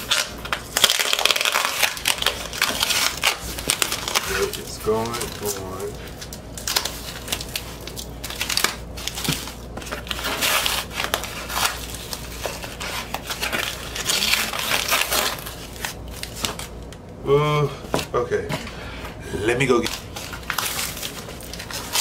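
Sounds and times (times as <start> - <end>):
packing tape peeling off: 0.0 - 16.7, 19.9 - 22.0.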